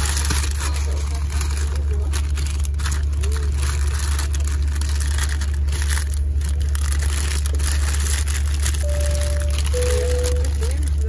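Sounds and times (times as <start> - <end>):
crinkling and rustling: 0.0 - 11.0
vehicle engine drone: 0.0 - 11.0.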